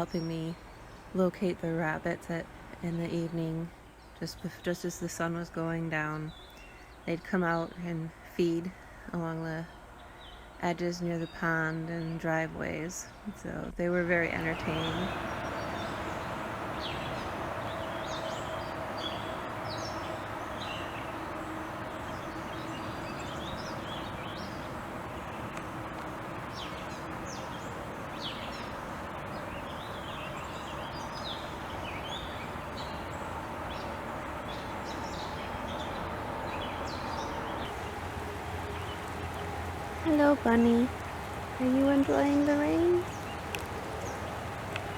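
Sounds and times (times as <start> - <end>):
small birds chirping: 0.0 - 13.3, 14.1 - 44.9
outdoor background noise: 0.0 - 44.9.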